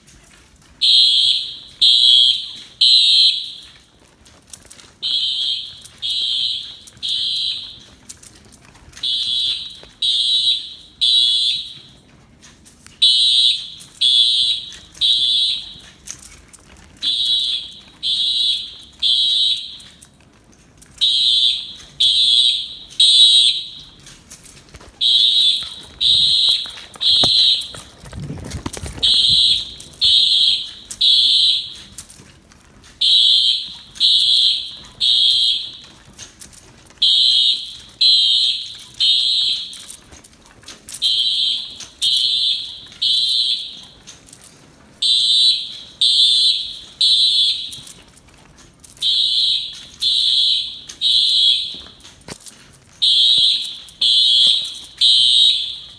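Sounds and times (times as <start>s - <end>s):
fire alarm horn blasts: 0.7s - 12.2s, 12.8s - 16.4s, 17.0s - 20.2s, 20.8s - 55.9s.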